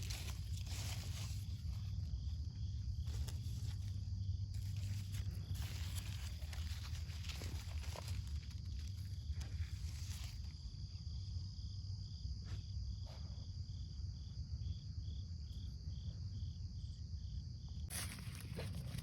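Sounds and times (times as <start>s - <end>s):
insects chirping chorus: 0.0s - 19.0s.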